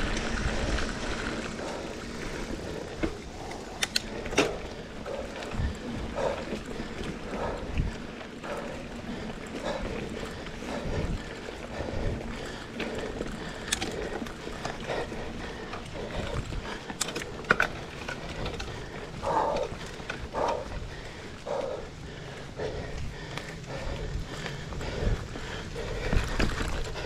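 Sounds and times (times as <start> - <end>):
bike rattling and knocking: 0.0 - 27.0
bike tyres on dirt trail: 0.0 - 27.0
rider breathing heavily: 0.0 - 27.0.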